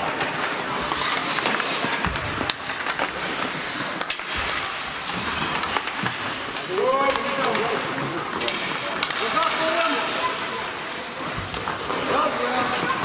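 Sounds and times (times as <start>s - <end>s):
skates scraping ice: 0.0s - 13.0s
stick and puck clacks: 0.0s - 13.0s.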